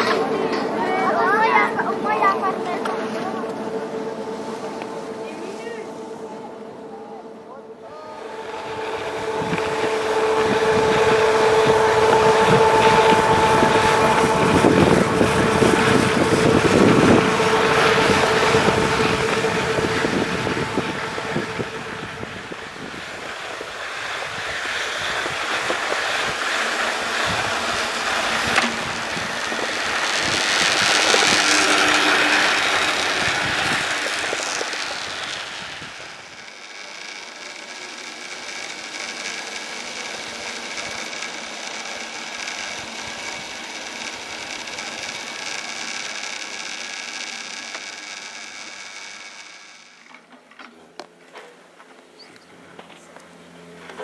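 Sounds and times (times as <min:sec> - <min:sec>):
ski lift rope rumbling whine: 0:00.0 - 0:54.0.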